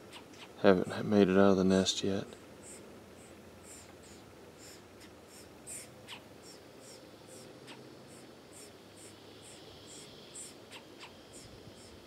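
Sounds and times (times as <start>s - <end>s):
woodpecker nestlings chirping: 0.0s - 1.2s, 2.3s - 12.0s.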